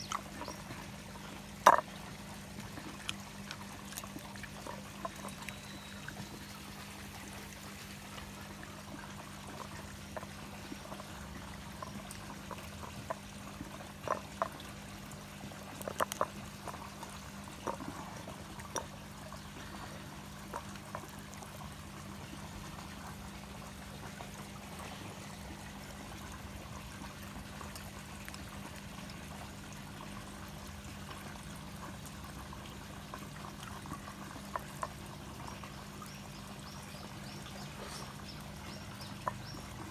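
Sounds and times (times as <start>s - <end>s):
low steady hum: 0.0s - 39.9s
water pouring into a pond: 0.0s - 39.9s.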